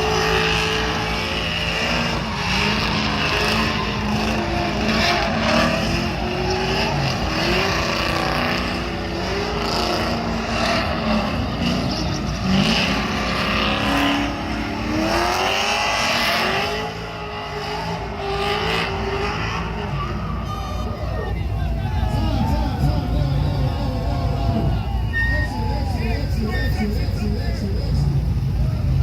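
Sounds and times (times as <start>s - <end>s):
car engine revving: 0.0s - 29.0s
road and drivetrain noise: 0.0s - 29.0s.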